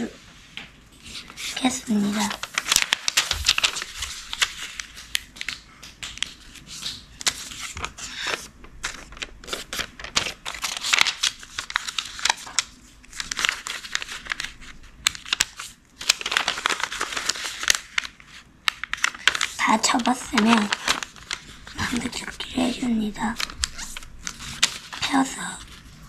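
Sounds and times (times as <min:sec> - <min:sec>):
paper folding and crinkling: 0:00.4 - 0:26.0.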